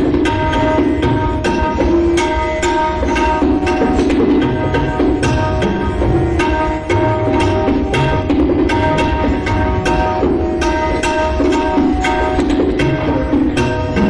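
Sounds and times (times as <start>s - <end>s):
tabla deep bass strokes: 0.0s - 14.0s
tabla high strokes: 0.0s - 14.0s.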